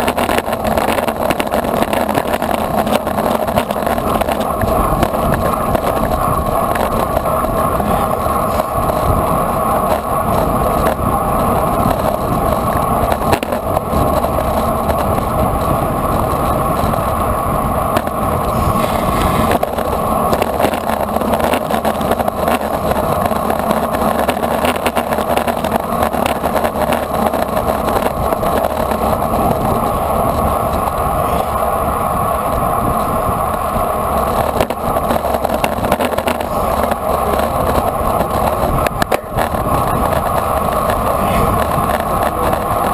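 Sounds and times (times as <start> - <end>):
tyre noise on asphalt: 0.0 - 42.9
wind rushing over microphone: 0.0 - 42.9.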